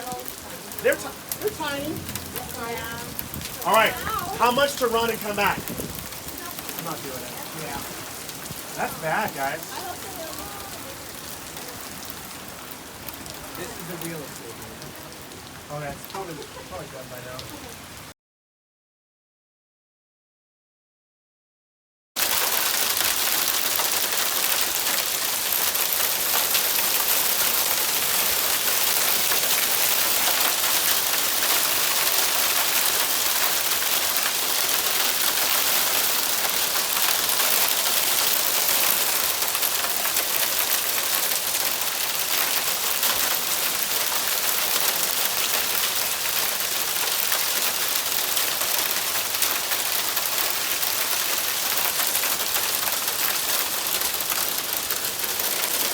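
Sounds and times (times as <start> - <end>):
hail and rain pelting down: 0.0 - 18.1, 22.2 - 55.9.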